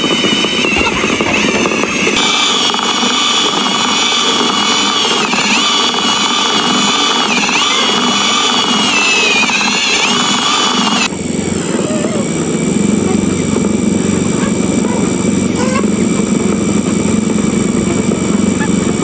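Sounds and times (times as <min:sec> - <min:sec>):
motor running with high whine: 0:00.0 - 0:19.0.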